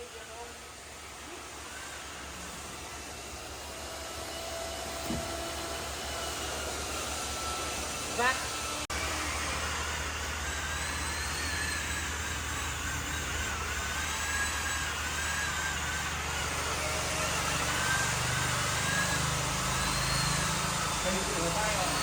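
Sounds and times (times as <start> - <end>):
machinery humming with high whine: 0.0 - 22.0.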